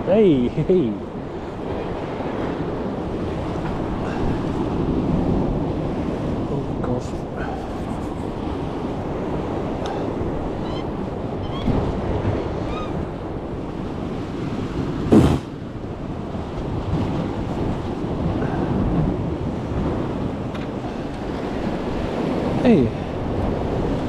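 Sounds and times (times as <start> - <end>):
sea waves washing against rocks: 0.0 - 24.0
wind buffeting microphone: 0.0 - 24.0.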